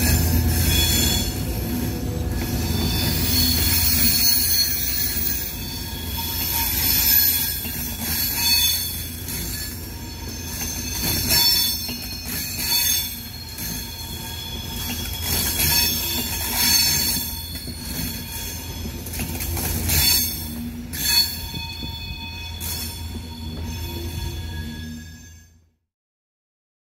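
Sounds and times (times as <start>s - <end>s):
train wheels squealing: 0.0s - 25.7s.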